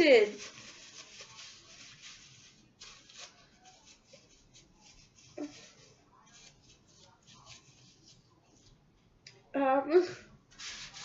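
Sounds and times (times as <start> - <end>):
paper rustling and crinkling: 0.0 - 8.8, 10.5 - 11.0.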